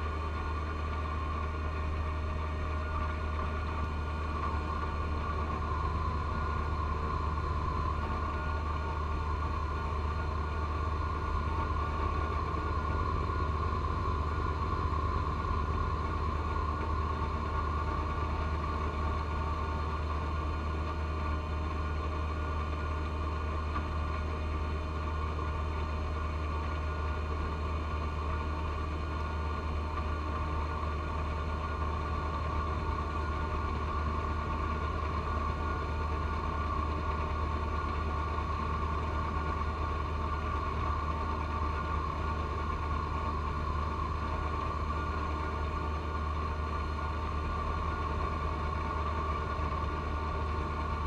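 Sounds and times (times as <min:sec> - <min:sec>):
snowblower high whine: 0:00.0 - 0:51.0
tractor diesel engine drone: 0:00.0 - 0:51.0.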